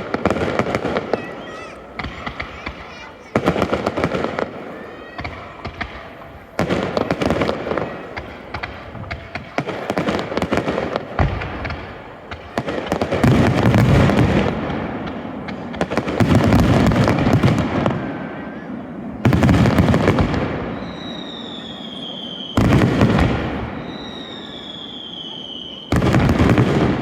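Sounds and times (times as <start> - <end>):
fireworks booming and crackling: 0.0 - 27.0.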